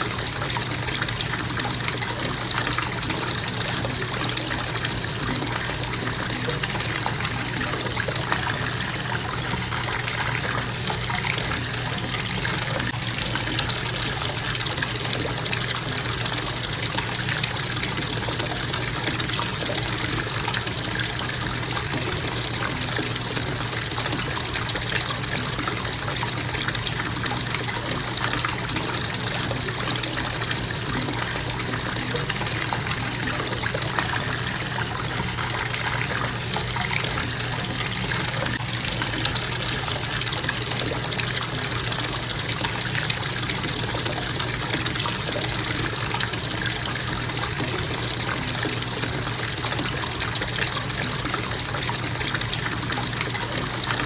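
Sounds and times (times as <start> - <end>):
bathtub faucet running: 0.0 - 54.0.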